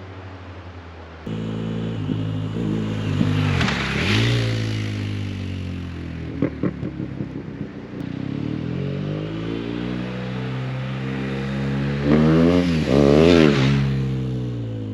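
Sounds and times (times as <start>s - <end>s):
motorcycle engine revving: 1.3s - 14.9s.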